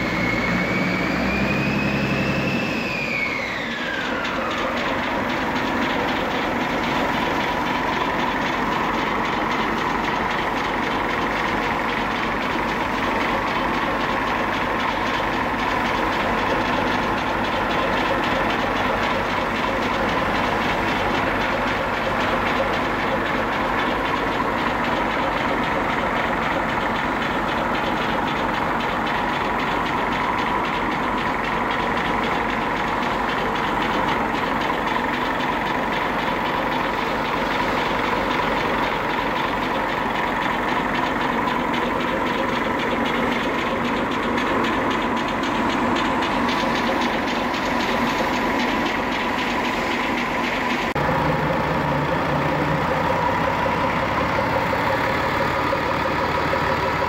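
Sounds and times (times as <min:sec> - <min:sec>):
diesel engine idling with clatter: 0:00.0 - 0:57.0.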